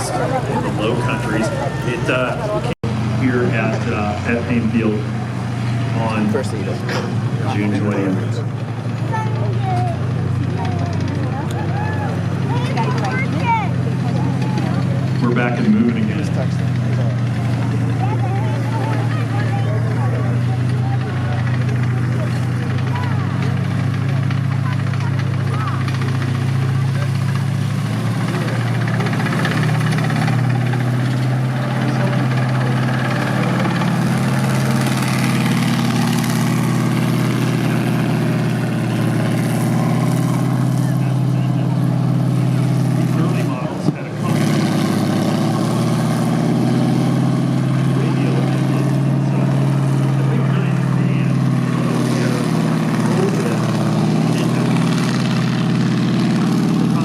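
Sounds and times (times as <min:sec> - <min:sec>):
tank radial engine running: 0:00.0 - 0:57.0.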